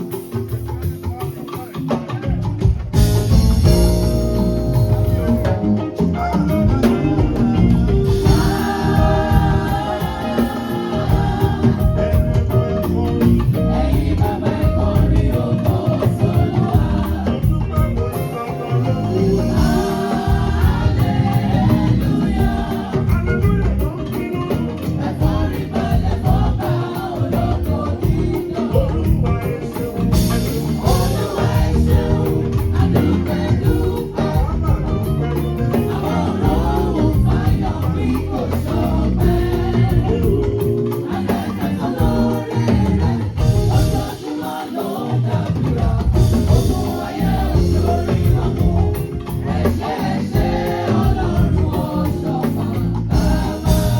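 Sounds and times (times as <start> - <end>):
choir singing gospel: 0.0 - 53.9
drum and percussion beat: 0.0 - 53.9
live band: 0.0 - 53.9.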